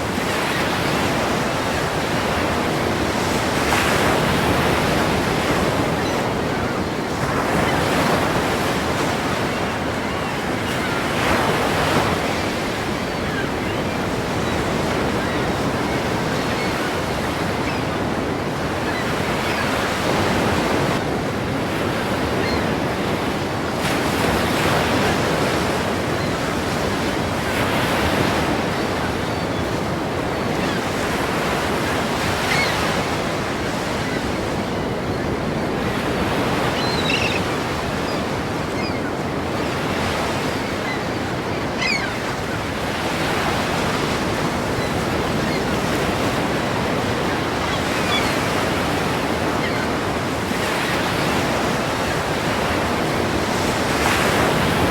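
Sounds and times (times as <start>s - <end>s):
ocean waves crashing: 0.0s - 54.9s.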